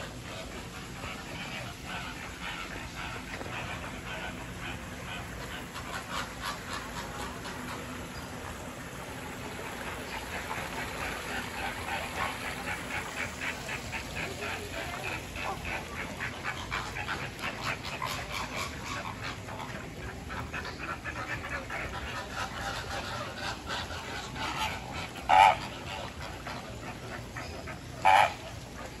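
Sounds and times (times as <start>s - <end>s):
flamingos calling: 0.0s - 29.0s.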